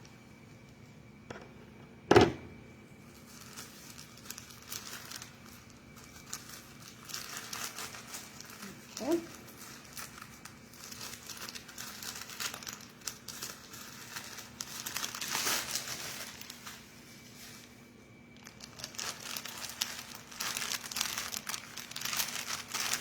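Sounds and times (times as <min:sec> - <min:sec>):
packaging crinkling and rustling: 0:02.9 - 0:23.0.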